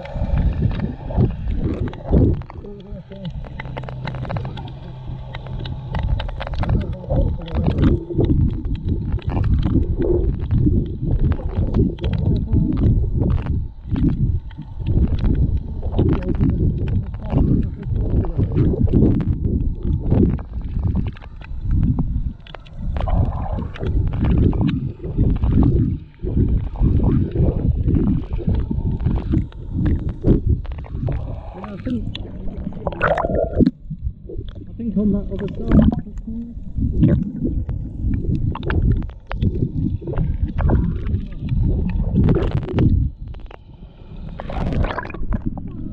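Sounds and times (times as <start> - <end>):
muffled underwater sloshing: 0.0 - 45.9.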